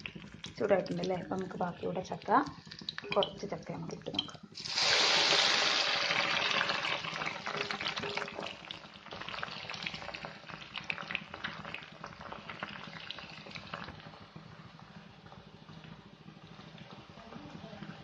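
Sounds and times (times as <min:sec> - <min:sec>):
fruit deep-frying in hot oil: 0:00.0 - 0:18.0.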